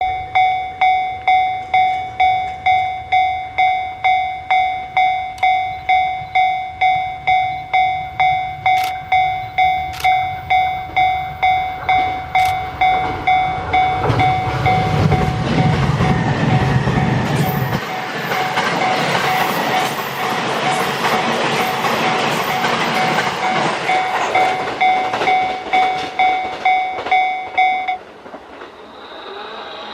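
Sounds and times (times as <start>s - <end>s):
level crossing warning bell: 0.0s - 28.1s
train wheels rushing on rails: 1.1s - 29.9s.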